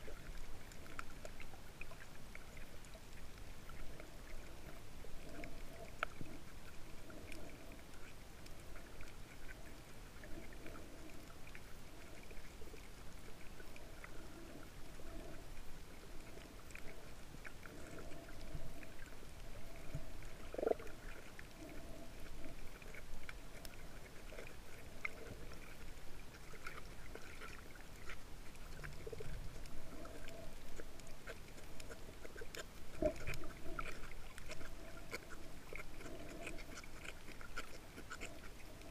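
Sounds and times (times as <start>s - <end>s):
faint clicks and crackles: 0.0s - 38.9s
muffled underwater wash: 0.0s - 38.9s.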